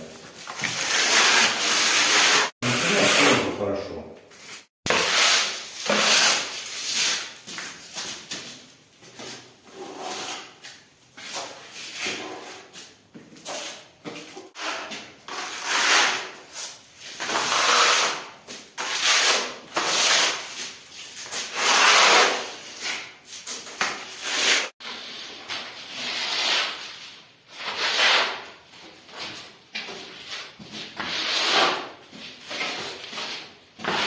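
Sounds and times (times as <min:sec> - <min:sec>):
trowel scraping wet plaster: 0:00.3 - 0:03.5, 0:04.5 - 0:07.4, 0:09.3 - 0:28.6, 0:29.2 - 0:34.0.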